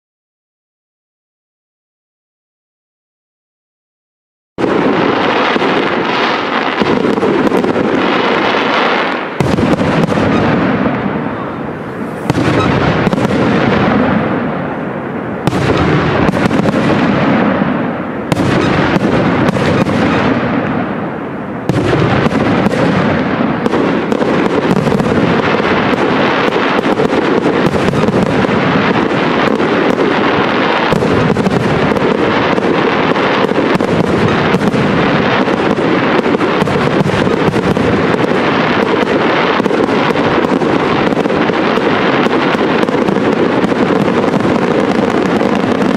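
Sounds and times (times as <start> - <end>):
firework shells bursting: 4.6 - 14.8, 15.4 - 45.9
fireworks crackling: 4.6 - 45.9.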